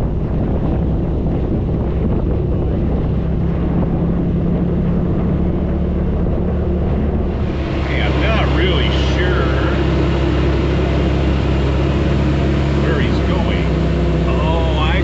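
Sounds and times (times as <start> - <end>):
utility vehicle engine running: 0.0 - 15.0
wind buffeting microphone: 0.0 - 15.0.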